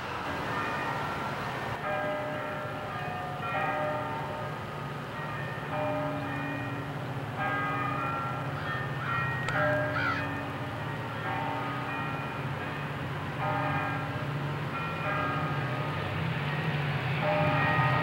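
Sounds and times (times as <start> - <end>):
bells ringing: 0.0 - 18.0.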